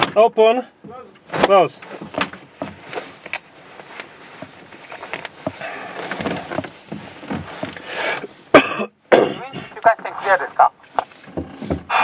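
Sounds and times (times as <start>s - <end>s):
rustling: 1.0s - 8.5s, 9.7s - 12.0s.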